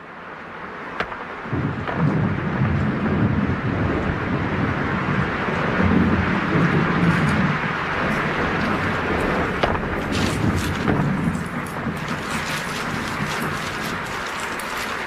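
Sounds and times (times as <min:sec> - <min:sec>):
steady rumbling rushing noise: 0:00.0 - 0:15.0.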